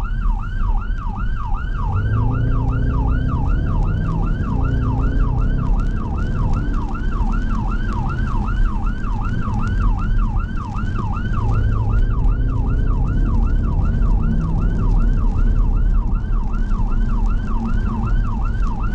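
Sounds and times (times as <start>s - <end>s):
road and engine rumble: 0.0s - 18.9s
siren yelping: 0.0s - 18.9s.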